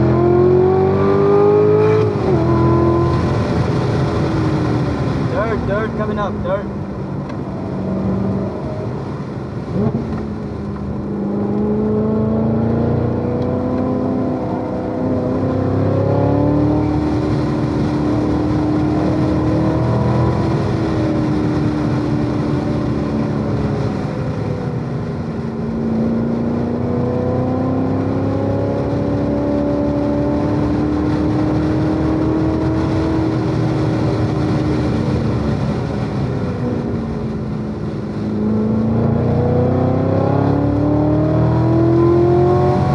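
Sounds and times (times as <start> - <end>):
car engine revving on track: 0.0 - 42.9.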